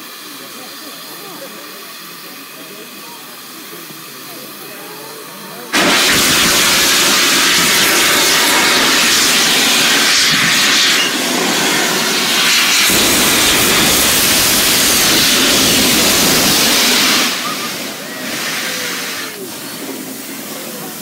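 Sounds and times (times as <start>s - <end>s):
steam locomotive releasing steam: 0.0s - 21.0s.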